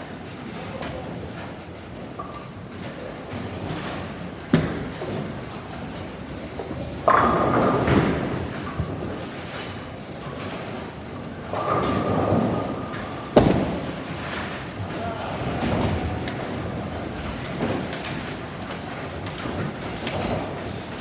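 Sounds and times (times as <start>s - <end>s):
bowling balls crashing into pins: 3.5s - 21.0s.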